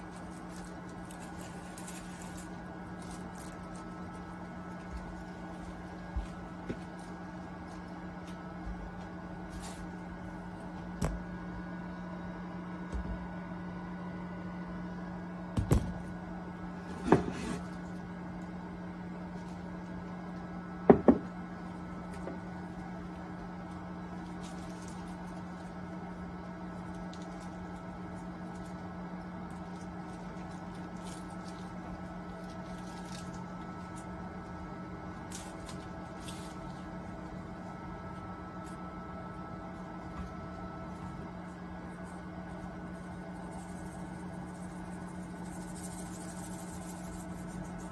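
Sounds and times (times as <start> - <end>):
microwave oven humming: 0.0 - 47.9.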